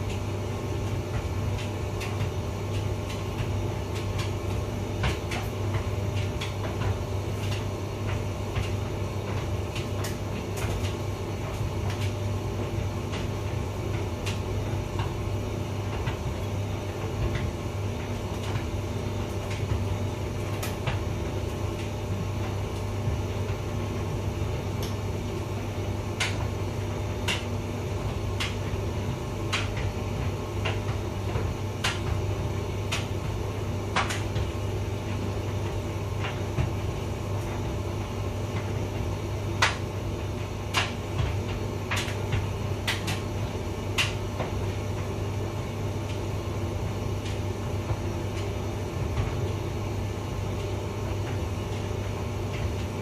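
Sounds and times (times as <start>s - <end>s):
tumble dryer humming: 0.0s - 53.0s.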